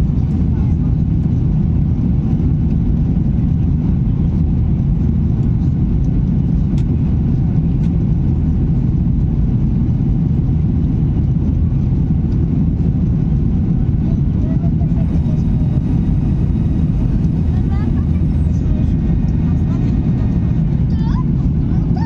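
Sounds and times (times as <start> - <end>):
jet engines at high power: 0.0 - 22.0.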